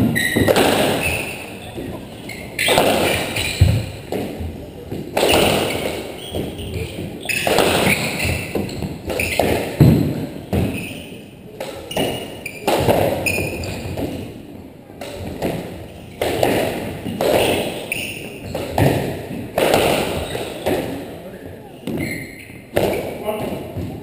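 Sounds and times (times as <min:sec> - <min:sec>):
squash ball hits ringing: 0:00.0 - 0:14.3, 0:15.0 - 0:21.2, 0:21.8 - 0:24.0
sneakers squeaking on hardwood: 0:00.0 - 0:14.4, 0:15.0 - 0:24.0.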